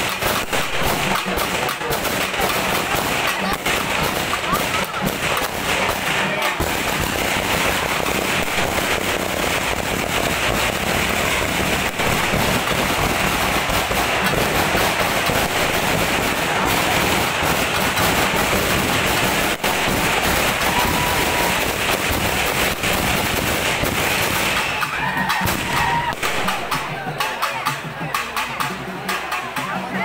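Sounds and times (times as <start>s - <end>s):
firecrackers crackling: 0.0s - 30.0s.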